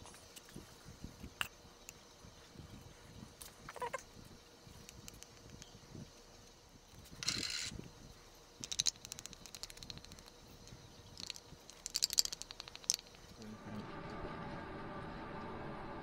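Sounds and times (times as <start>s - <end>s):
steady hum with faint tones: 0.0s - 16.0s.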